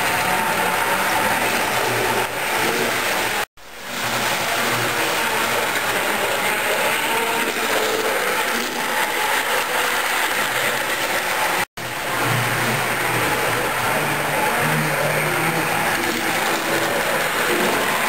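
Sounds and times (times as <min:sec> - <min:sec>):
model train wheels on rail: 0:00.0 - 0:18.0
small electric motors: 0:00.0 - 0:18.0.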